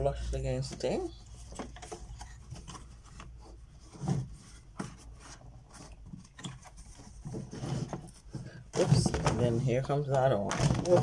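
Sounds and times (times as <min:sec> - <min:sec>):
board and paper rubbing: 0:00.7 - 0:09.8.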